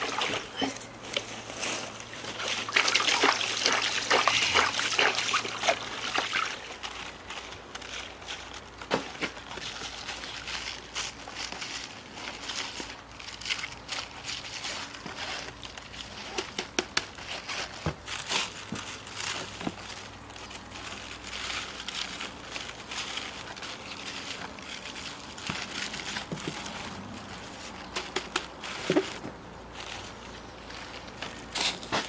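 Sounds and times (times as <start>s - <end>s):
cabbage leaves rustling and crackling: 0.0s - 32.0s.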